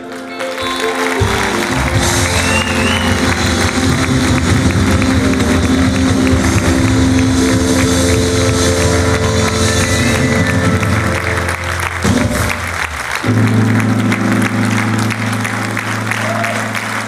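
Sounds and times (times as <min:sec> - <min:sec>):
audience clapping: 0:00.0 - 0:17.0
live band sustained chords: 0:00.0 - 0:17.0.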